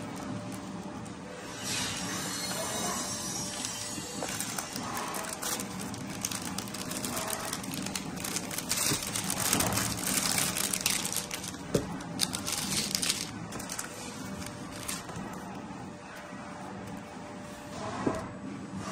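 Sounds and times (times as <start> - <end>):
packaging crinkling: 0.0 - 15.7.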